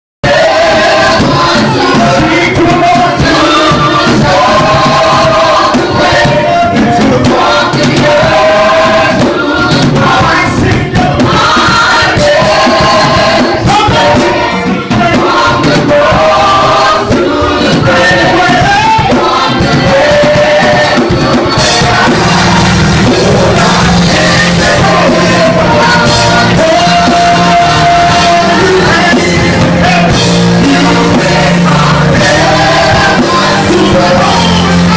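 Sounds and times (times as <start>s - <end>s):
live music with group singing: 0.2s - 34.9s.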